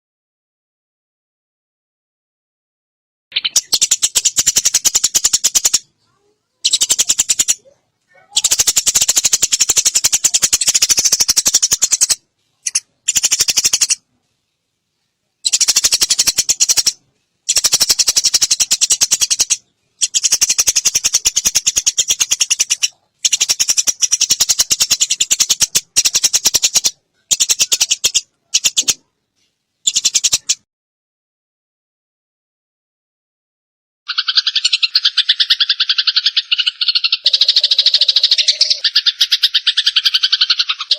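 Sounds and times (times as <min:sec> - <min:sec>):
sparrows rattling chatter: 0:03.3 - 0:14.4, 0:15.4 - 0:30.6, 0:34.1 - 0:40.9.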